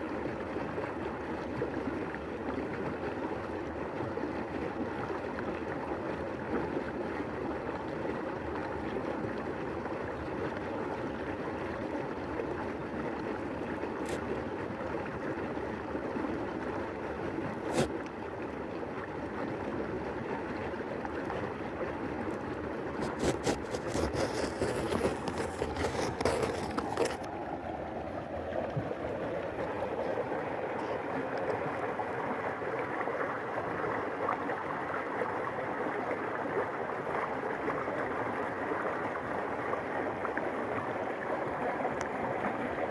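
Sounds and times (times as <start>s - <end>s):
underwater stream gurgle: 0.0s - 42.9s.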